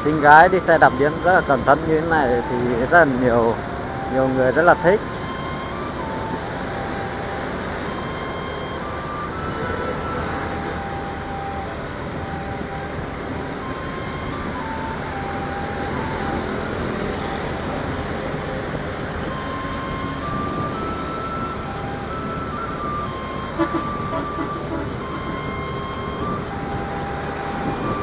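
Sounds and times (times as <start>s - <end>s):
faint tune of held notes: 0.0s - 28.0s
motorbike riding in traffic: 0.0s - 28.0s.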